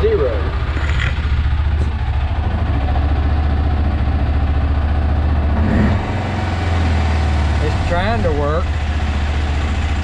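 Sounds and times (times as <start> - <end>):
engine idling with low pulsing: 0.0 - 10.0.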